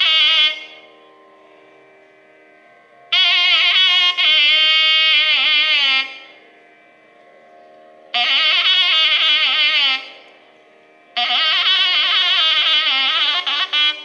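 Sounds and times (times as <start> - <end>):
nadaswaram melody: 0.0 - 14.0
steady drone: 0.0 - 14.0.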